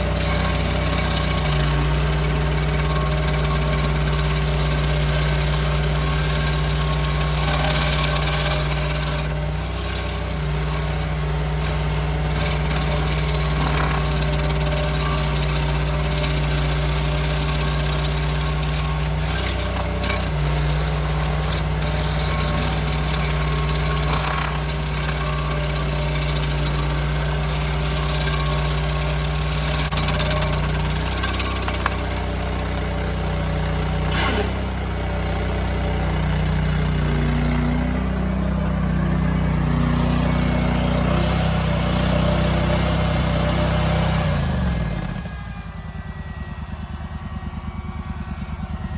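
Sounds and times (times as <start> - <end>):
small loader engine running: 0.0 - 48.9
stump grinder grinding wood: 0.0 - 48.9.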